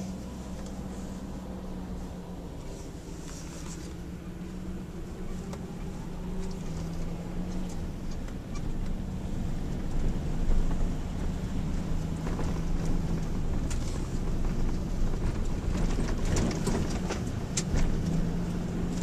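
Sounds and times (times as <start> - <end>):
vehicle engine and tyre drone: 0.0 - 19.0.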